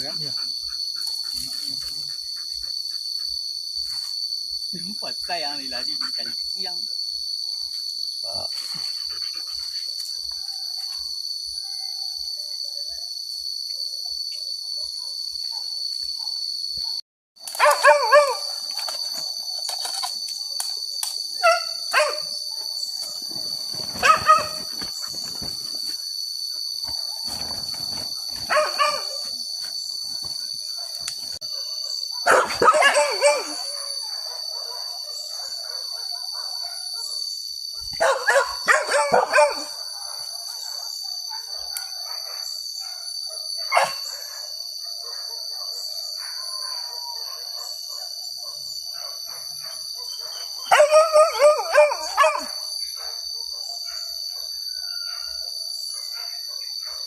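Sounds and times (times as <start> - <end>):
hunting dogs barking and baying: 0.0 - 4.0, 5.7 - 57.0
high-pitched insect drone: 0.0 - 57.0.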